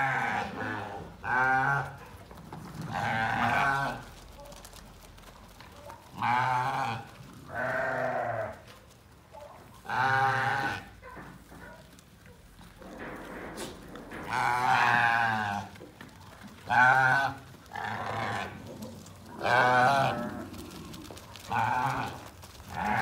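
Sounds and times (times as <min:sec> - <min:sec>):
goats and sheep bleating: 0:00.0 - 0:04.8, 0:06.0 - 0:08.8, 0:09.6 - 0:11.5, 0:12.7 - 0:23.0.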